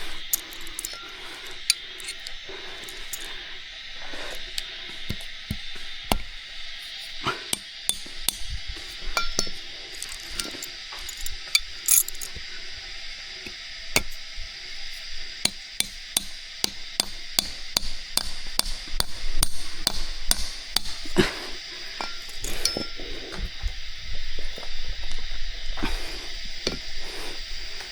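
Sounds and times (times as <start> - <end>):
steady high hiss: 0.0 - 27.9.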